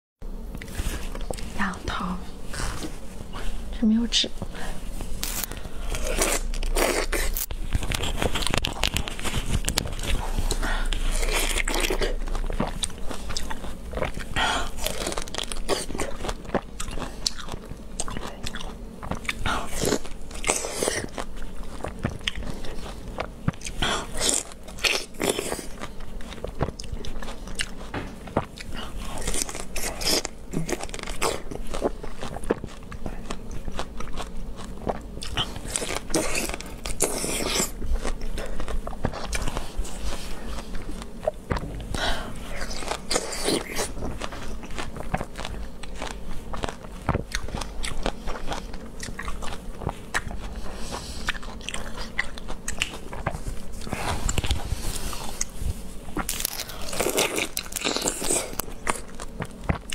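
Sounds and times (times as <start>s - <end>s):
crunchy fruit bites: 4.5s - 59.9s
chewing: 5.2s - 59.9s.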